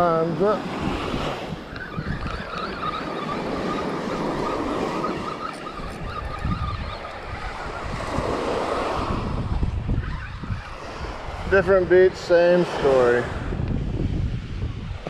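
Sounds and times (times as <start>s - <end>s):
small waves washing on sand: 0.0s - 6.2s, 7.0s - 9.9s, 10.6s - 15.0s
wind rumbling on microphone: 0.0s - 15.0s.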